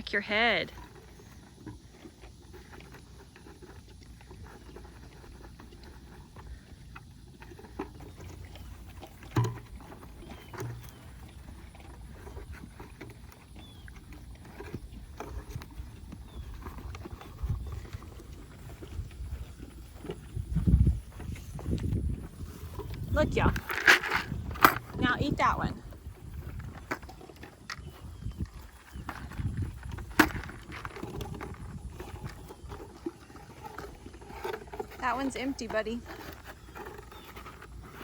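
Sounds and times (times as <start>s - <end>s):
horses eating from buckets: 0.0s - 38.0s.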